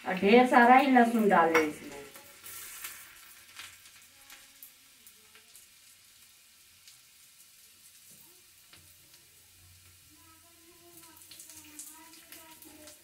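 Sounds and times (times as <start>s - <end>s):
faint sizzle of frying oil: 0.0s - 13.0s
small crackles: 2.0s - 13.0s.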